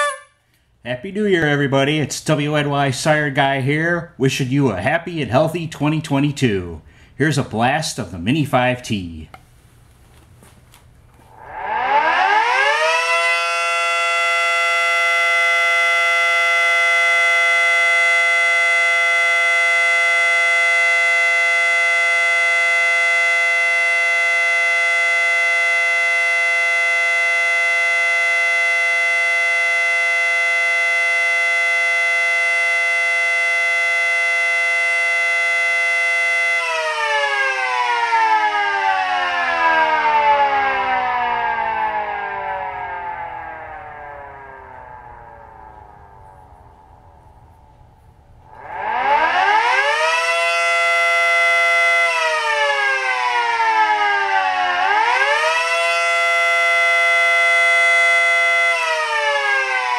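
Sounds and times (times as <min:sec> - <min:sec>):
siren winding up and down: 0:00.0 - 0:00.4, 0:11.3 - 0:59.9.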